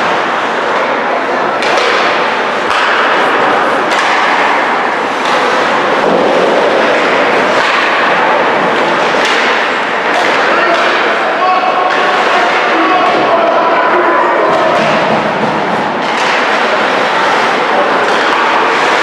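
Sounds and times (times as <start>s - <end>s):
steady loud noise: 0.0s - 19.0s
hockey sticks and puck knocking: 1.6s - 13.6s, 14.4s - 19.0s.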